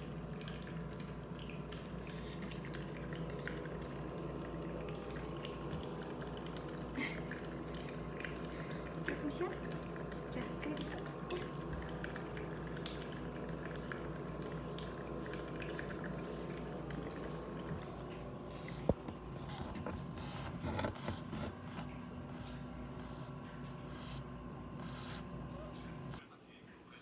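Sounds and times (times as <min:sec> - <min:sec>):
nebulizer humming: 0:00.0 - 0:26.2.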